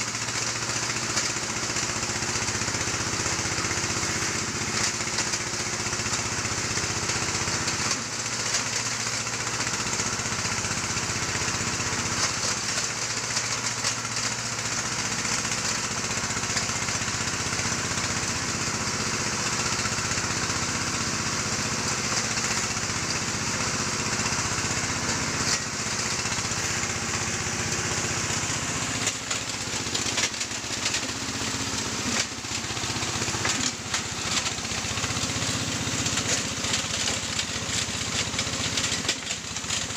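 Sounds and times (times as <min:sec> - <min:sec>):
engine hum: 0:00.0 - 0:39.9
stone grinding machine clatter: 0:00.0 - 0:39.9.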